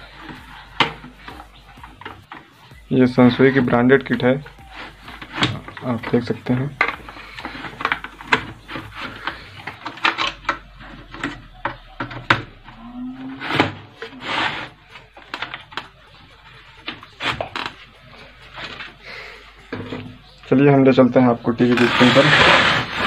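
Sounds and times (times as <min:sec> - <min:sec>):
hands handling wiring and plastic: 0:00.0 - 0:23.0.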